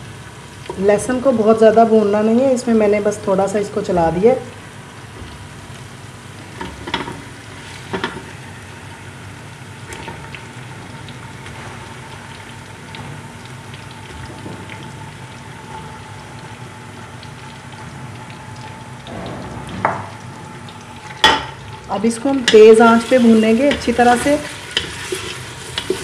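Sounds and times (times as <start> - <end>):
meat sizzling in hot oil: 0.0 - 19.2, 19.9 - 26.0.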